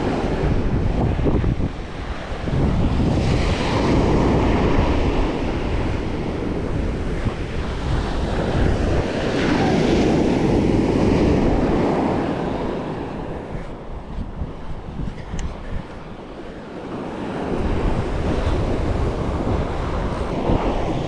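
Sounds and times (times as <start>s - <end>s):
surf breaking on beach: 0.0s - 15.0s, 15.6s - 21.0s
wind buffeting microphone: 0.0s - 21.0s.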